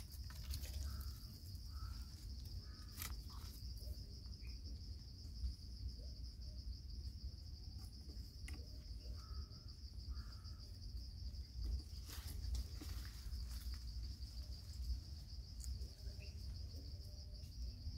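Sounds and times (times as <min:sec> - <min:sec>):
insects chirring: 0:00.0 - 0:17.9.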